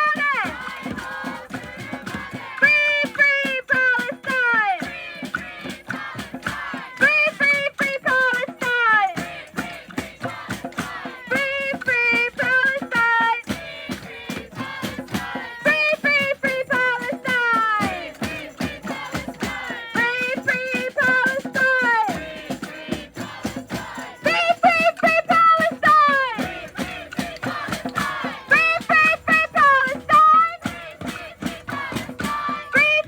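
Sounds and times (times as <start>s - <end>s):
rhythmic instrumental accompaniment: 0.0s - 33.0s.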